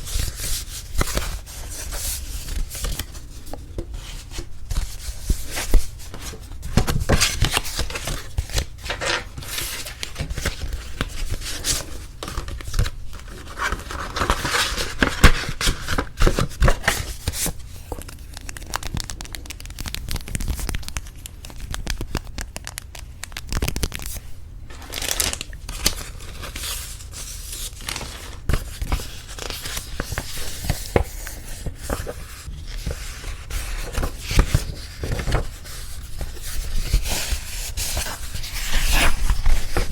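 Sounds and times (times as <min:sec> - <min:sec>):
stiff paper rustling and crinkling: 0:00.0 - 0:39.9.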